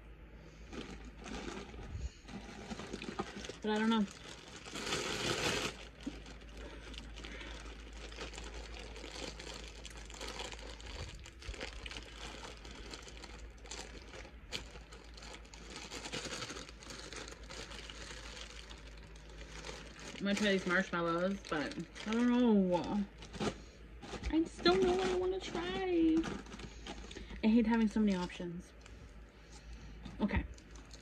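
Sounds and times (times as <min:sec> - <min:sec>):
plastic wrappers crinkling: 0:00.6 - 0:31.0.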